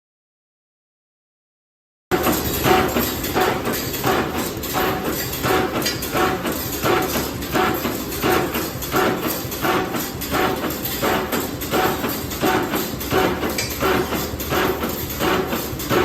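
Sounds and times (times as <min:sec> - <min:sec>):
wire bending machine clacking: 0:02.1 - 0:16.0.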